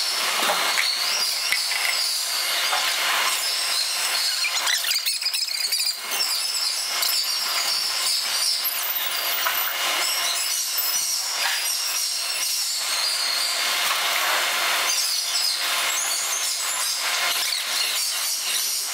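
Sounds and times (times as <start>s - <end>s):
sped up work noise: 0.0s - 18.9s.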